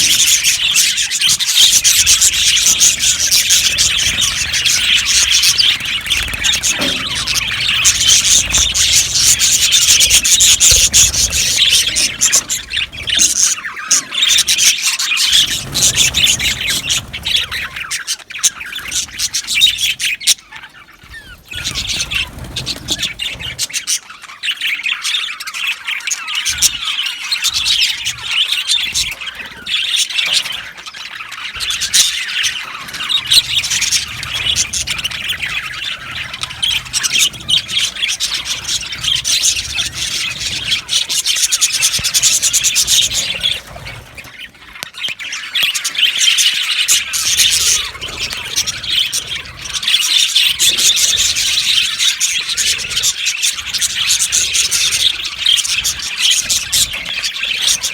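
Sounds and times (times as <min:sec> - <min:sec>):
budgerigars chattering and chirping: 0:00.0 - 0:57.9.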